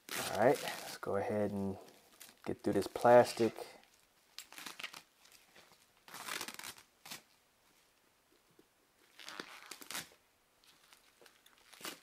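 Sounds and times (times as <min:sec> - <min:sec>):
bubble wrap crinkling and tearing: 0:00.0 - 0:01.2, 0:01.8 - 0:07.4, 0:09.0 - 0:12.0.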